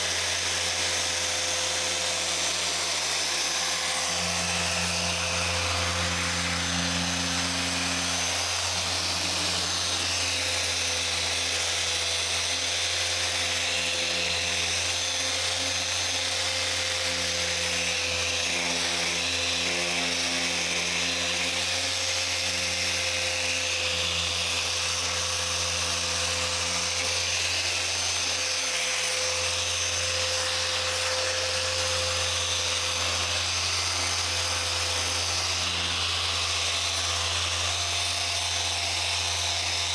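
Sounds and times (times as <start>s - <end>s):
car polisher running: 0.0s - 39.9s.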